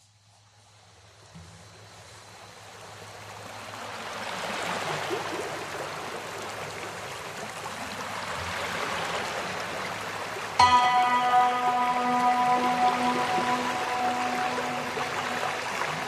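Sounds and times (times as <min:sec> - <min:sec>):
stream water rushing and gurgling: 0:02.5 - 0:16.0.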